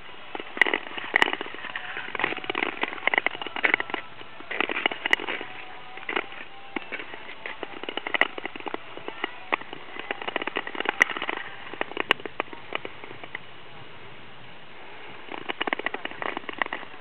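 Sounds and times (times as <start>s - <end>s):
skate blades clicking on ice: 0.0s - 13.4s, 14.9s - 17.0s.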